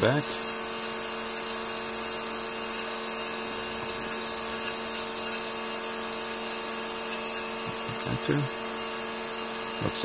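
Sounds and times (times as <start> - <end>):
electrical hum with high whine: 0.0 - 10.0.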